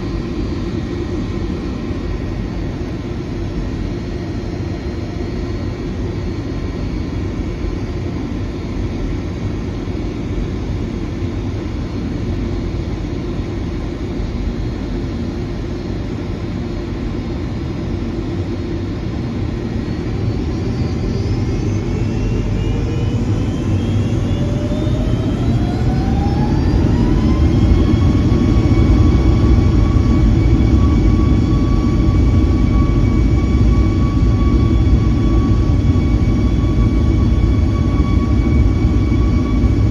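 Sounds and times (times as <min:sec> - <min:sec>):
jet engine whine rising: 0:00.0 - 0:39.9
jet engines low rumble: 0:00.0 - 0:39.9.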